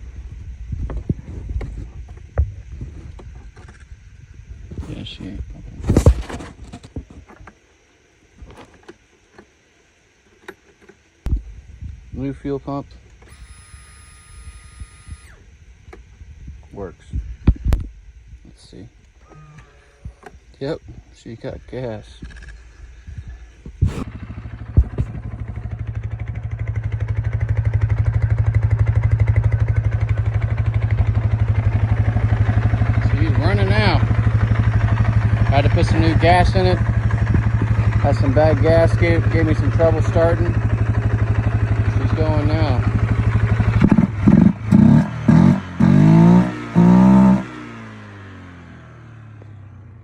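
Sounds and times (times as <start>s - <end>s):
atv engine running: 0.0s - 50.0s.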